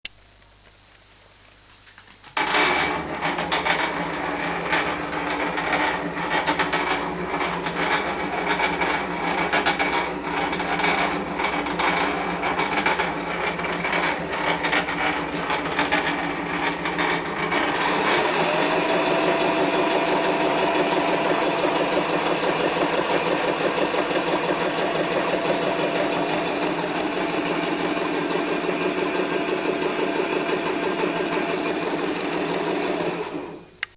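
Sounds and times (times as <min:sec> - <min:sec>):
rattling mechanical clatter: 0:02.4 - 0:33.5
lathe motor running: 0:02.4 - 0:33.6
motor whine rising: 0:02.9 - 0:32.4.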